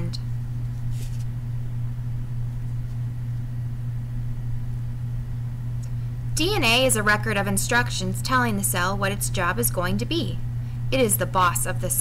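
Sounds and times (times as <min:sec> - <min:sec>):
low hum with faint hiss: 0:00.0 - 0:12.0.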